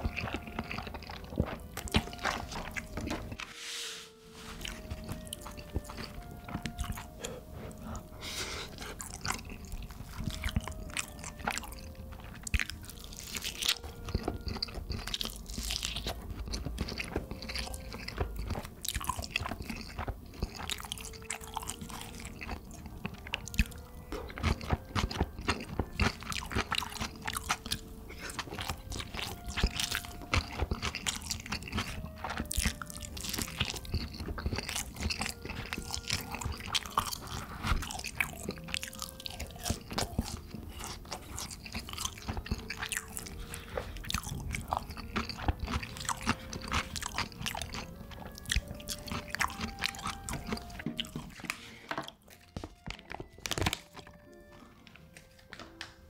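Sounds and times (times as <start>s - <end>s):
person chewing and crunching: 0.0s - 3.4s, 4.1s - 55.4s
soft background music: 0.0s - 56.0s.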